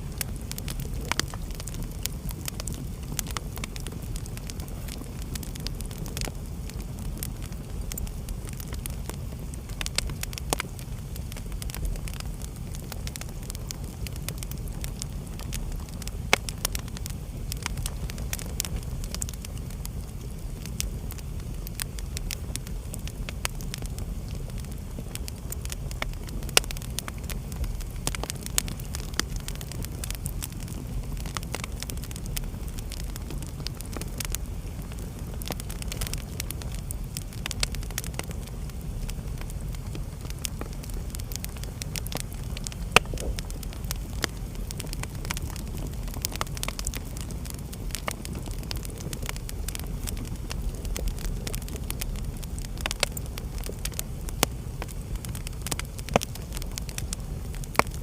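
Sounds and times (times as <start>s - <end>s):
flames rumbling: 0.0s - 58.0s
wood fire crackling: 0.0s - 58.0s
sharp fire pops: 0.1s - 58.0s.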